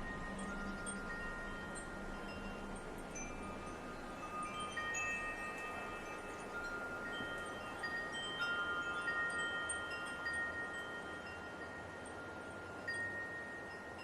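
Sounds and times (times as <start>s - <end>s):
light wind hiss: 0.0s - 14.0s
wind chimes ringing: 0.0s - 14.0s.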